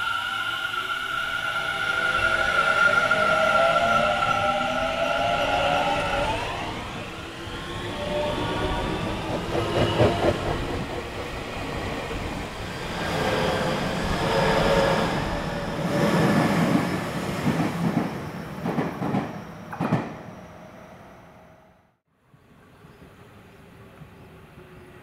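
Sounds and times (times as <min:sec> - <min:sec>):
train running noise: 0:00.0 - 0:20.5.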